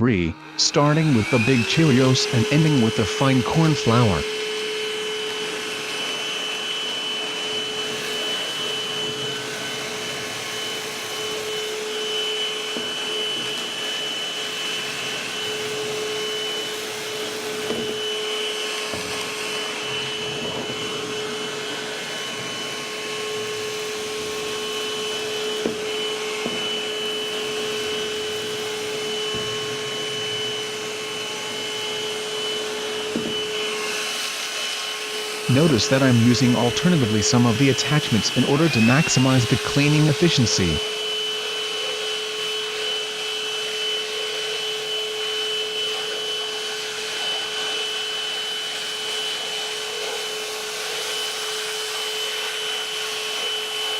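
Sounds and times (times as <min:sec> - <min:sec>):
handheld vacuum cleaner running: 0:00.0 - 0:53.9.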